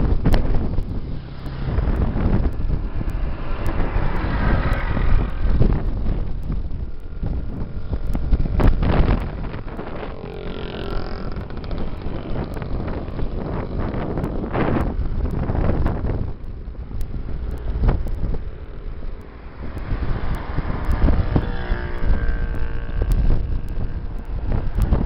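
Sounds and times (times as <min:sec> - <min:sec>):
motorcycle engines running: 0:00.0 - 0:25.0
wind buffeting microphone: 0:00.0 - 0:25.0.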